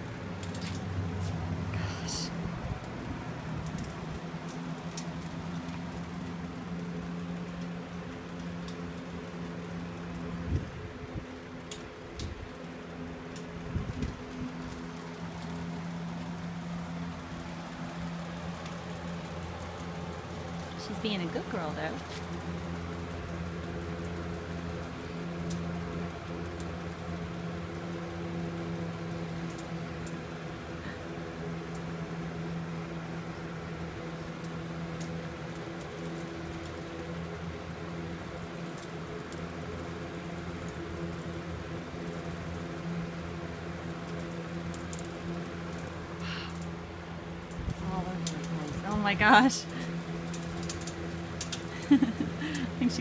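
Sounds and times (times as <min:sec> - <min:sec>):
box fan humming: 0:00.0 - 0:53.0.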